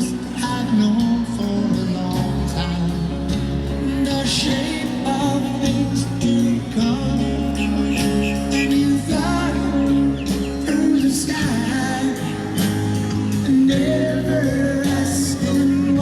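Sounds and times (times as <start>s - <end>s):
song with singing: 0.0s - 16.0s.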